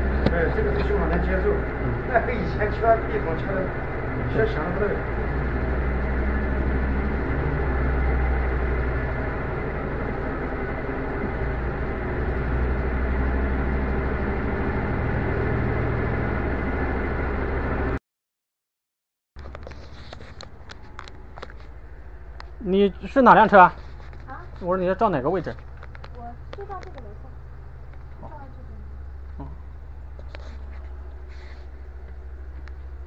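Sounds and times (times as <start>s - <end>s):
washing machine spinning: 0.0s - 18.0s, 19.8s - 33.0s.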